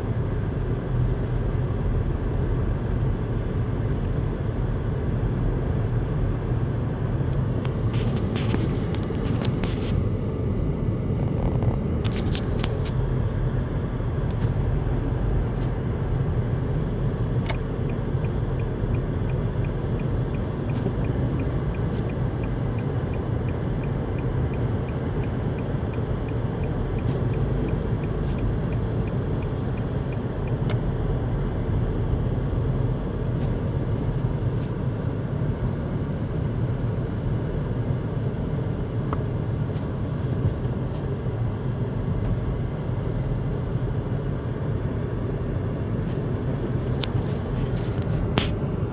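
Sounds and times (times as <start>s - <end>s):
engine and tyres rumbling: 0.0s - 48.9s.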